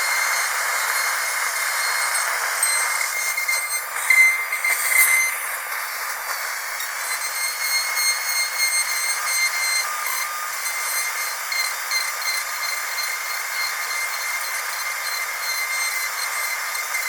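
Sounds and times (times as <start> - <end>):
dental drill whining: 0.0 - 17.0
hiss: 0.0 - 17.0.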